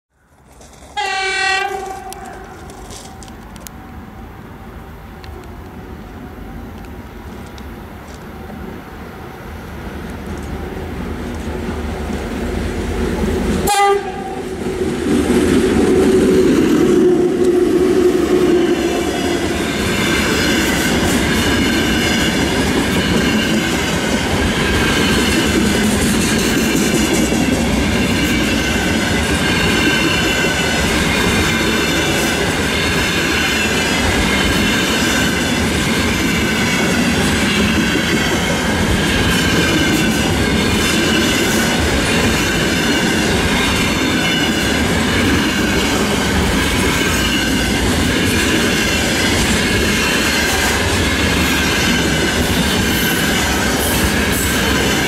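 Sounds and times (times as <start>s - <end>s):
electric locomotive passing: 0.2s - 55.0s.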